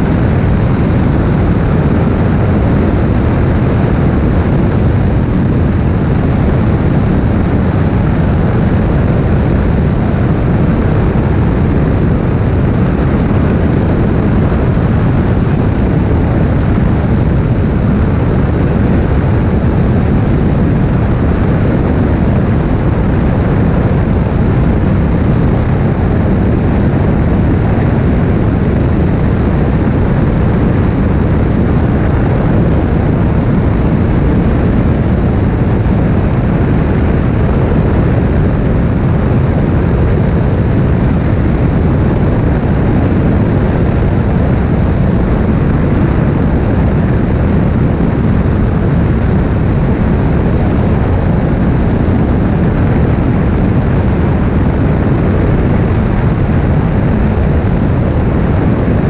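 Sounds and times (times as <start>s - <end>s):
light aircraft engine drone: 0.0s - 59.0s
wind rushing over camera: 0.0s - 59.0s.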